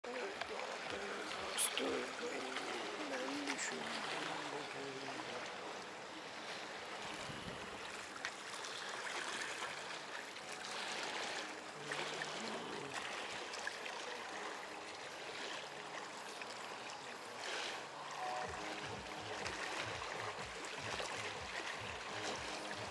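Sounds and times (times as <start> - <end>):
small waves washing onto beach: 0.0 - 22.9.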